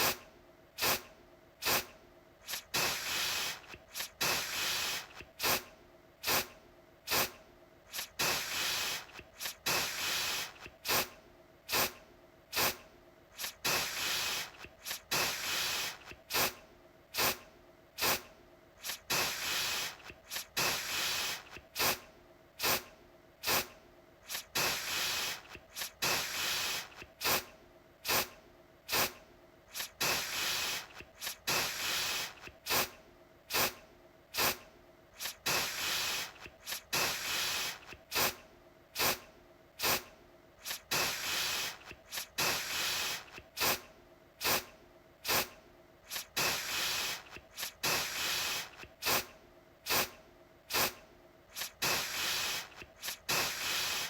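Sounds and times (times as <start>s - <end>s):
aerosol can spraying: 0.8s - 6.5s, 7.1s - 12.8s, 13.4s - 16.6s, 17.2s - 17.4s, 18.0s - 22.0s, 22.6s - 28.3s, 28.9s - 33.8s, 34.4s - 34.6s, 35.2s - 38.4s, 39.0s - 39.2s, 39.8s - 45.5s, 46.1s - 49.3s, 49.9s - 54.0s.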